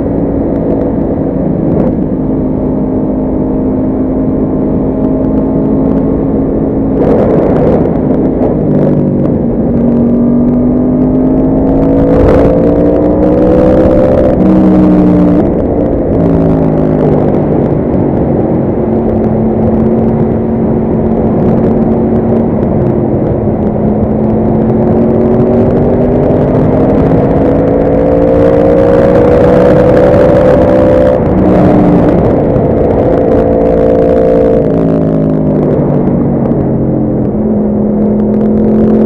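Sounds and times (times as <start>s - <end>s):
wind and road noise: 0.0s - 39.0s.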